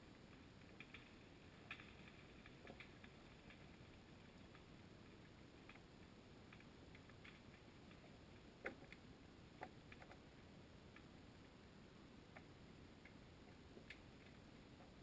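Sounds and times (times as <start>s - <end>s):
faint low hiss: 0.0s - 15.0s
faint clicks: 0.1s - 11.7s, 12.3s - 15.0s.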